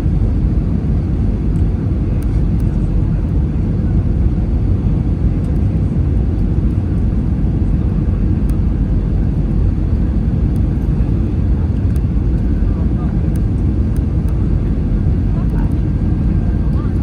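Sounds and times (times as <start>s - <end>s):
aircraft engine roar in cabin: 0.0s - 17.0s.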